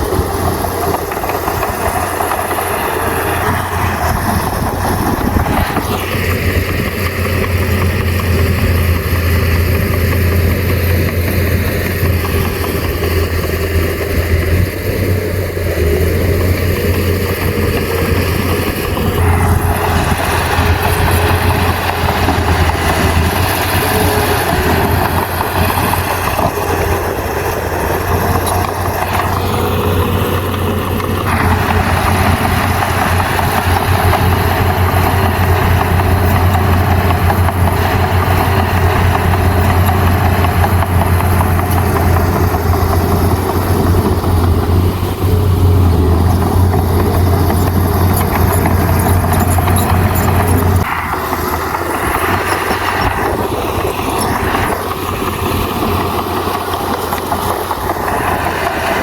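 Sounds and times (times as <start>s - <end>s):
coarse mechanical clatter: 0.0s - 59.0s
heavy diesel engine running: 0.0s - 59.0s.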